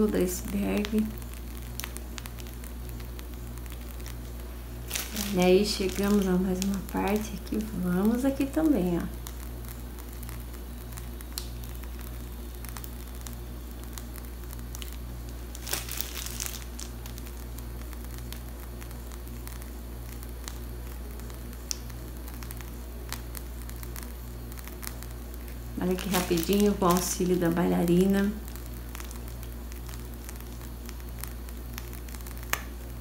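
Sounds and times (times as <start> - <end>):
plastic piping bag crinkling: 0.0 - 33.0
steady low hum: 0.0 - 33.0.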